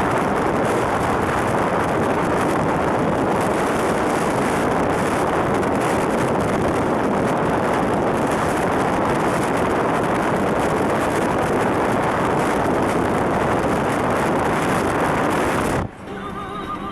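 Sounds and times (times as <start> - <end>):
vehicle engines: 0.0 - 16.9.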